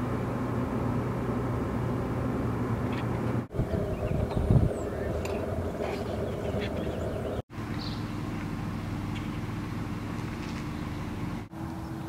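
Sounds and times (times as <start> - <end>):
low rumble: 0.0 - 11.5.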